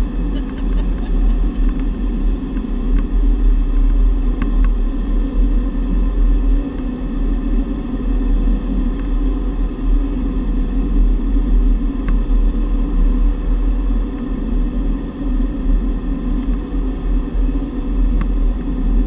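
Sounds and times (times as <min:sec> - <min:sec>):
air rushing over cockpit: 0:00.0 - 0:19.0
plane engine drone: 0:00.0 - 0:19.0.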